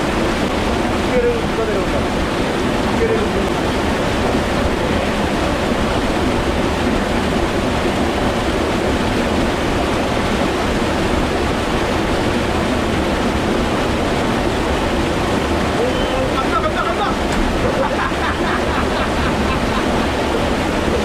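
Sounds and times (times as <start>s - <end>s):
stream rushing water: 0.0s - 21.0s.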